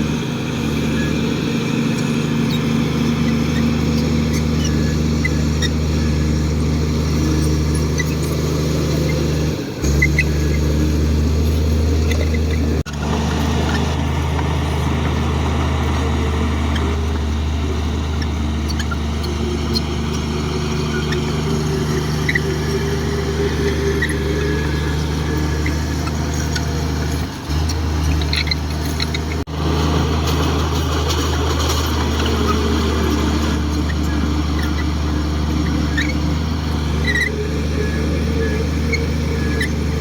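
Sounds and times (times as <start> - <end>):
faint high squeaks: 0.0 - 29.5, 30.7 - 40.0
bulldozer diesel engine running: 0.0 - 40.0.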